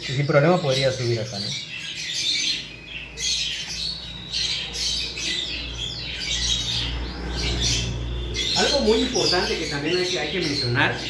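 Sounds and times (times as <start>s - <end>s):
birds chirping and squawking: 0.0s - 11.0s.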